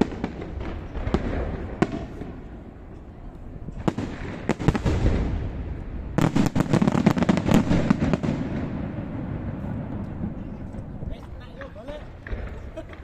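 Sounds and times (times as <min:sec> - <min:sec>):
fireworks bangs and crackles: 0:00.0 - 0:13.0
low fireworks rumble: 0:00.0 - 0:13.0.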